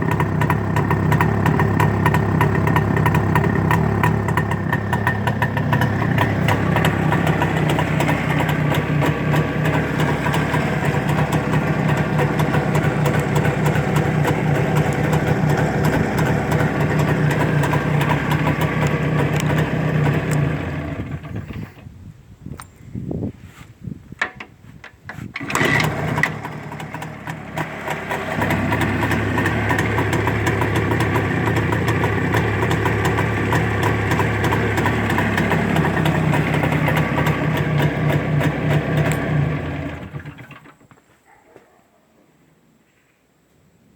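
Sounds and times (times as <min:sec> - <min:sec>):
two-stroke engine running: 0:00.0 - 0:21.8, 0:25.4 - 0:40.8.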